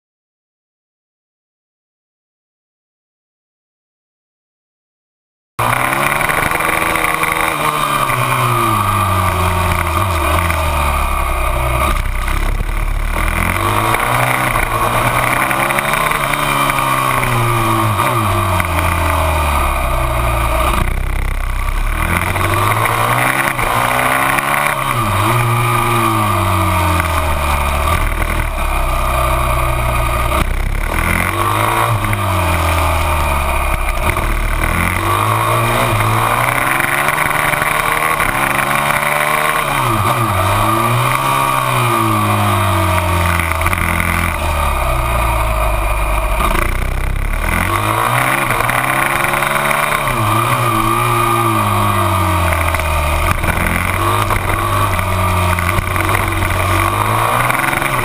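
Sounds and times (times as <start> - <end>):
motorcycle engine revving: 5.6 - 58.0.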